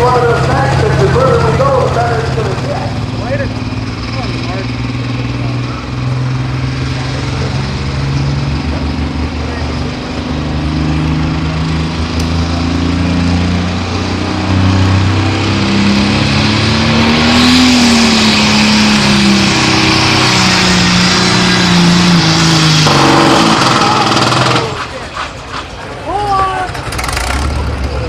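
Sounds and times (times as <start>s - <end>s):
diesel tractor engine revving: 0.0s - 28.0s.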